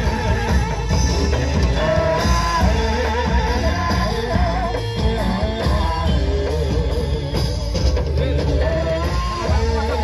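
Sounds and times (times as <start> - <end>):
drums: 0.0 - 10.0.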